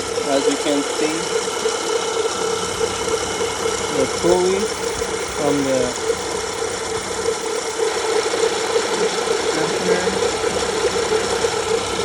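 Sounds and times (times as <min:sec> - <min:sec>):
car engine running: 0:00.0 - 0:12.0
grinding belt tensioner pulley: 0:00.0 - 0:12.0.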